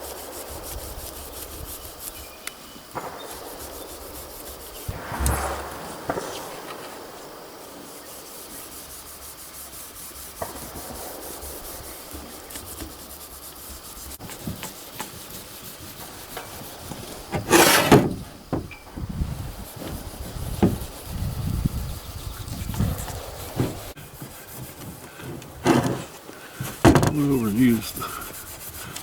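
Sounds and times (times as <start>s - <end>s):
scraping stroke on metal: 0.0s - 18.8s, 22.8s - 29.0s
rubbing on steel barrel: 0.0s - 29.0s.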